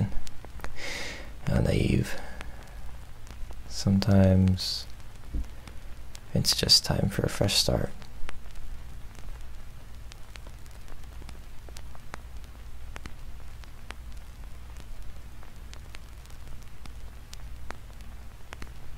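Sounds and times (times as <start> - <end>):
crackling clicks: 0.0 - 18.9
faint hiss: 0.0 - 18.9.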